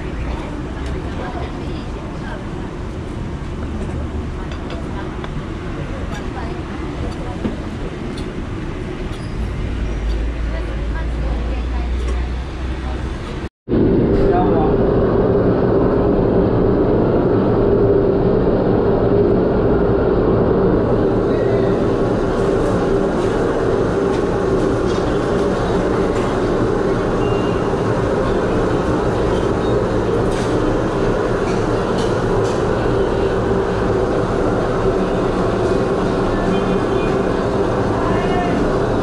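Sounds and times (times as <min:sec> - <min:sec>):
loud machine drone: 0:00.0 - 0:39.0.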